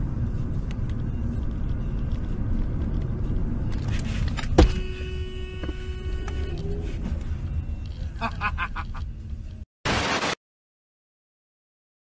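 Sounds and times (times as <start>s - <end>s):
car road and engine noise: 0.0s - 9.7s.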